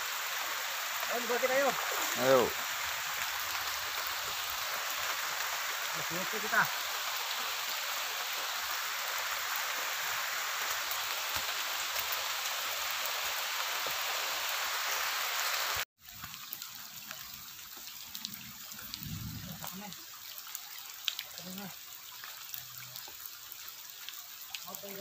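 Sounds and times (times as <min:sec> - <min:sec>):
rain falling on foliage and water: 0:00.0 - 0:25.0.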